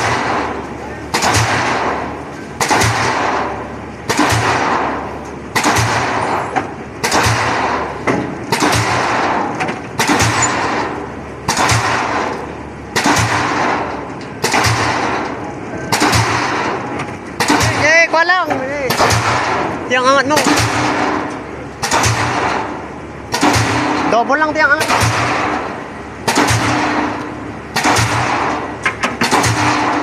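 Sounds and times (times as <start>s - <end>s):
pile-driving hammer blows: 0.0s - 30.0s.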